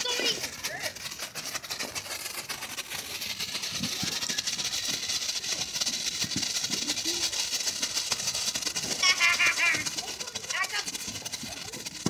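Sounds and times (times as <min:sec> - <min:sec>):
firework fountain hissing sparks: 0:00.0 - 0:12.0.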